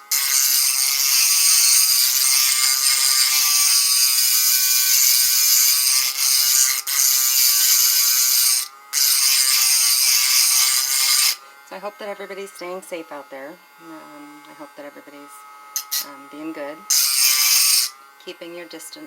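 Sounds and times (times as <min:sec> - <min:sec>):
rotary carving tool whining: 0:00.0 - 0:19.0.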